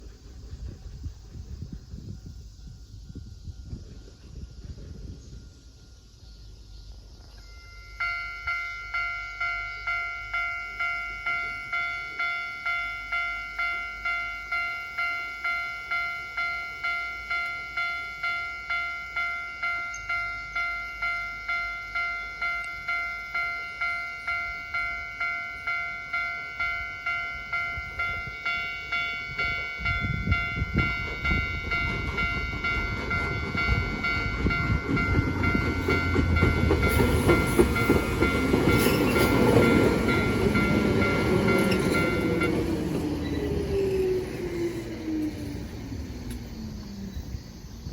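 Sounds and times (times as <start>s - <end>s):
train rumble and wheel clatter: 0.0s - 47.9s
electronic crossing bell dinging: 7.4s - 46.3s.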